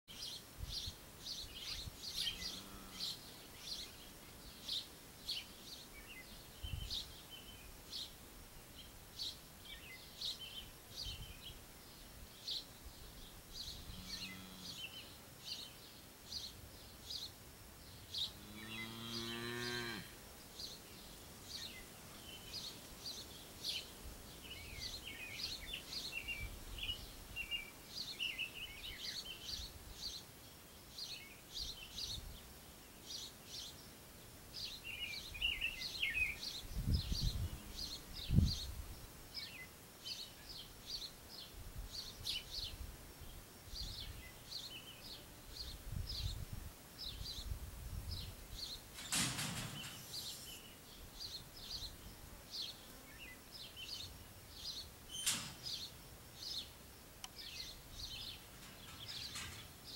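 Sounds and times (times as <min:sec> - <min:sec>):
songbirds chirping: 0:00.1 - 0:59.9.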